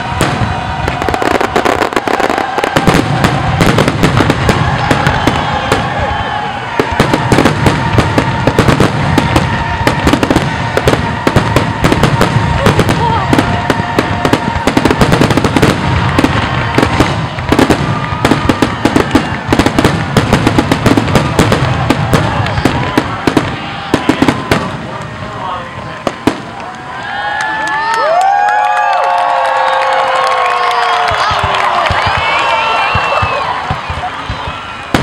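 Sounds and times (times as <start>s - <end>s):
fireworks barrage: 0.0s - 35.0s.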